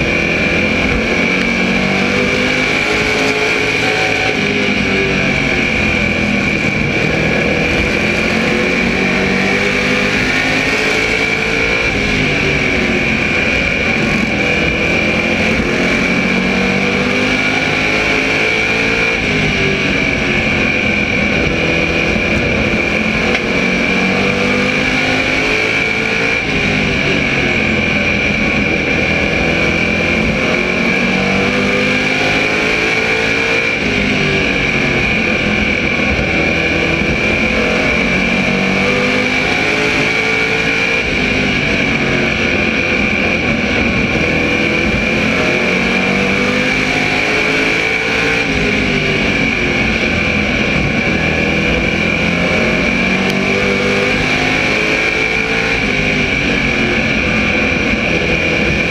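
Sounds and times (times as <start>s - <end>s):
race car engine revving: 0.0s - 58.9s
steady high whine: 0.0s - 58.9s.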